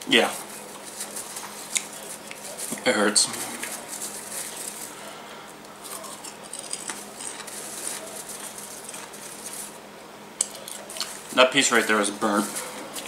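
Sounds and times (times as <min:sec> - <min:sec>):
popcorn rustling in plastic bowl: 0:00.0 - 0:09.9, 0:10.5 - 0:13.0.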